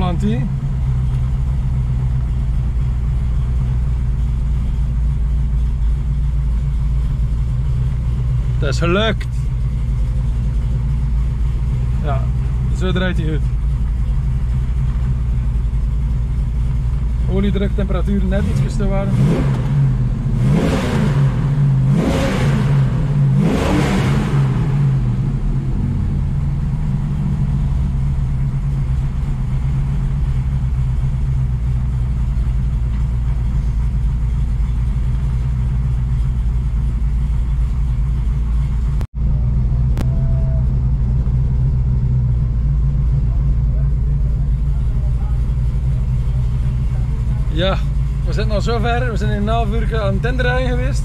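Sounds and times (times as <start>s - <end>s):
car engine revving and running: 0.0s - 51.0s.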